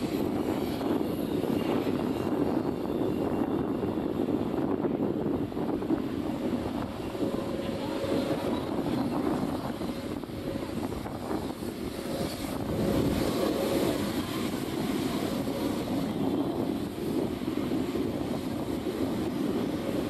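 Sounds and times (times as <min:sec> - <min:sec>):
distant helicopters rumbling: 0:02.1 - 0:20.0.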